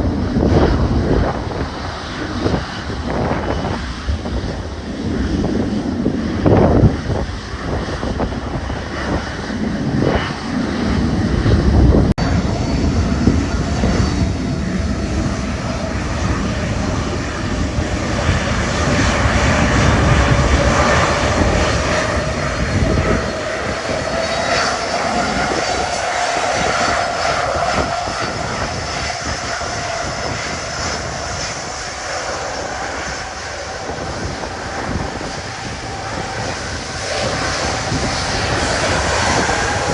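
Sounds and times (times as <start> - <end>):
jet aircraft rumble: 0.0 - 39.9
jet engine whine: 0.0 - 39.9.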